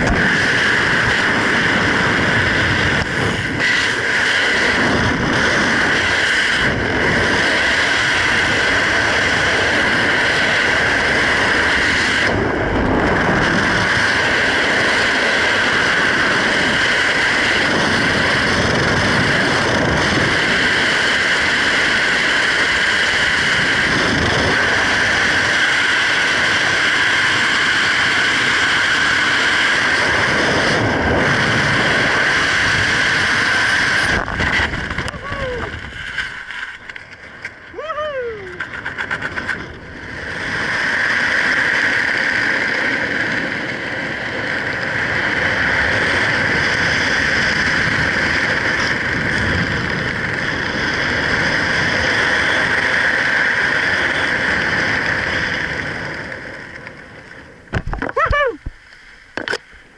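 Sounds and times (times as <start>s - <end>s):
wind rush on microphone: 0.0s - 59.9s.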